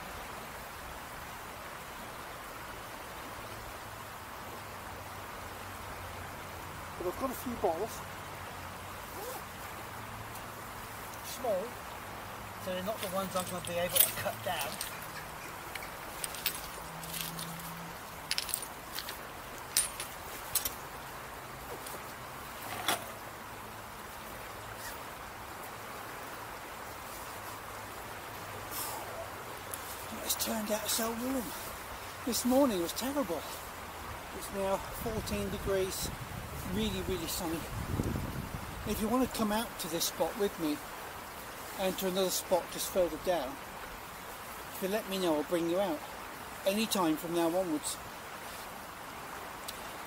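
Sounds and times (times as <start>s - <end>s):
river water flowing: 0.0s - 50.0s
steady outdoor hiss: 0.0s - 50.0s.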